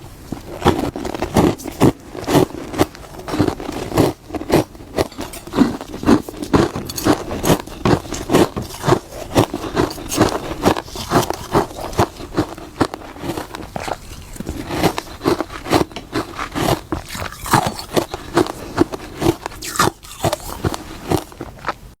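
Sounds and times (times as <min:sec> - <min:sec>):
frost being chewed crunching: 0:00.3 - 0:21.9.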